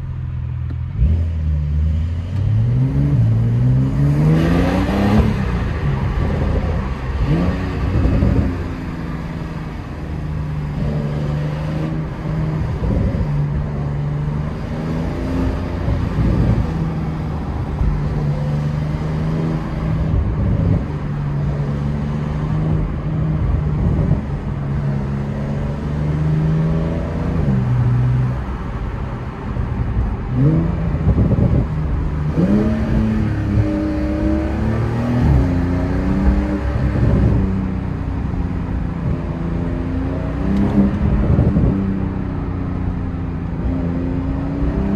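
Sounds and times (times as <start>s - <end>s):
road noise: 0.0s - 44.9s
car engine revving: 0.7s - 44.9s.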